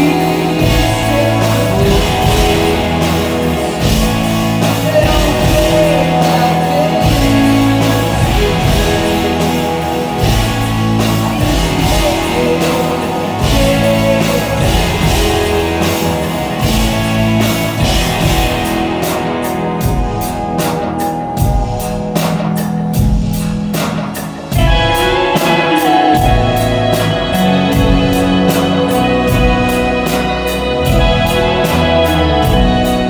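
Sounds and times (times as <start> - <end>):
bass guitar: 0.0 - 33.0
drum kit pulse: 0.0 - 33.0
electric guitar: 0.0 - 33.0.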